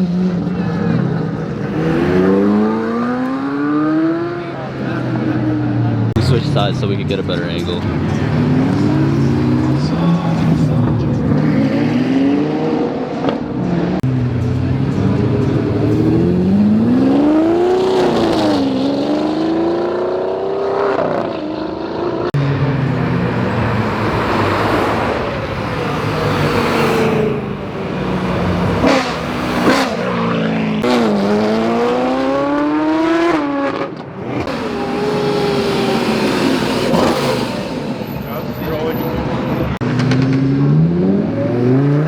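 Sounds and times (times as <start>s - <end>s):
cars accelerating hard: 0.0s - 42.0s.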